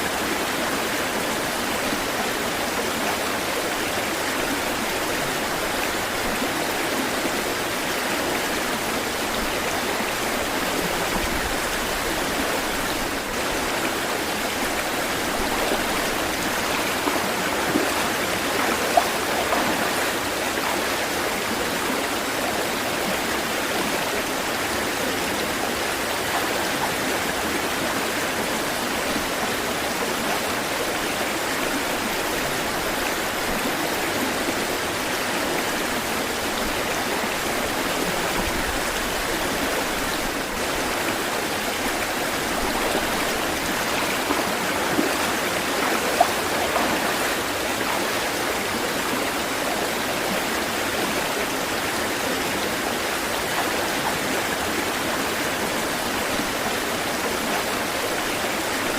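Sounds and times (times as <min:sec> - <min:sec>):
water rushing: 0:00.0 - 0:58.9.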